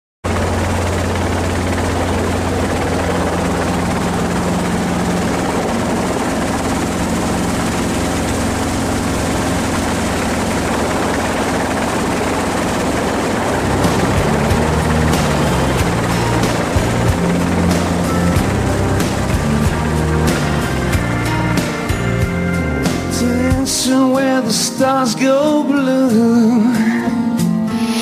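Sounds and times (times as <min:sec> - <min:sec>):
helicopter rotor and engine drone: 0:00.2 - 0:24.8
music: 0:00.3 - 0:28.0.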